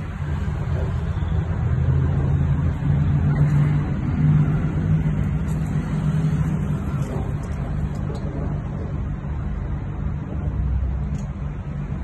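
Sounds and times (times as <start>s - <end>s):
heavy vehicle engine humming: 0.0s - 12.0s
road traffic: 0.0s - 12.0s.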